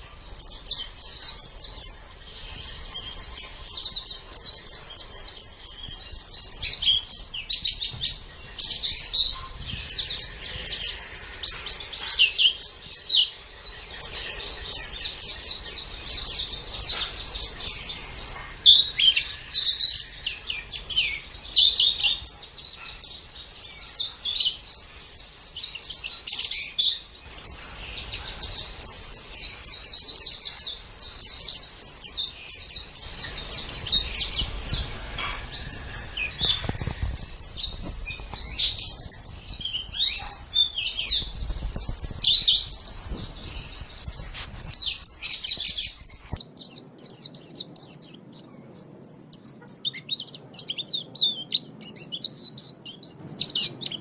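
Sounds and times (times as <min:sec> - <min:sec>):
bird twittering song: 0:00.0 - 0:54.0.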